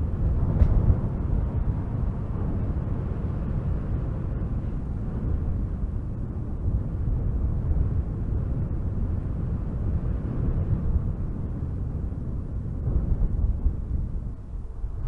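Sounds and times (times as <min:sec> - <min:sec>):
strong wind gusting through trees: 0:00.0 - 0:15.0.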